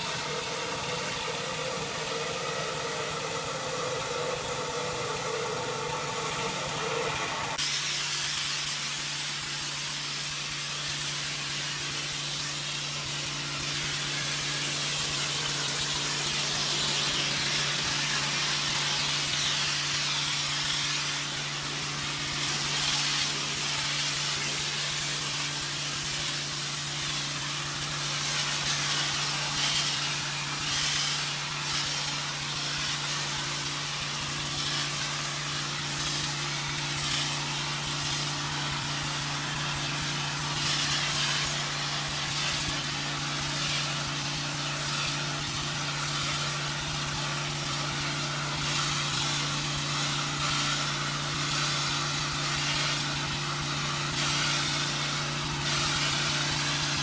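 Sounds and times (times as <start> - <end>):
high-pressure water spray hiss: 0.0 - 57.0
pressure washer engine running: 0.0 - 57.0.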